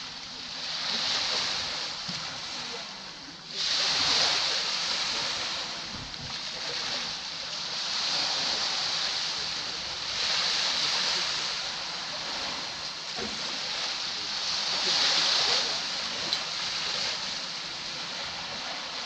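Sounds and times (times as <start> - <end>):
sea waves breaking on beach: 0.0 - 19.0.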